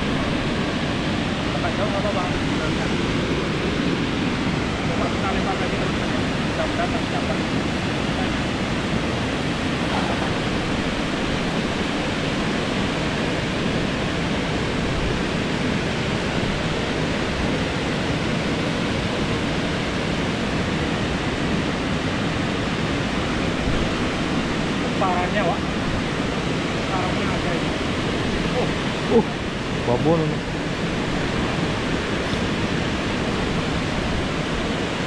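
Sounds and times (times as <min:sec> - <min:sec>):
flowing river water: 0:00.0 - 0:35.0.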